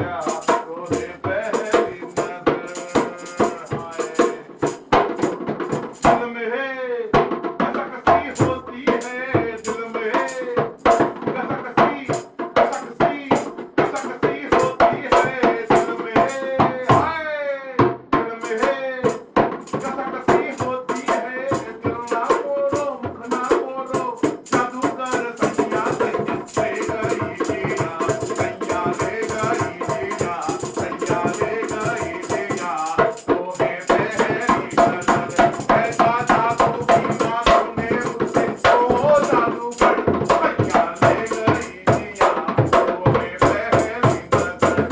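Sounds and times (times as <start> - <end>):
barrel drum rhythm: 0.0 - 6.4, 7.1 - 44.9
man singing: 0.0 - 44.9.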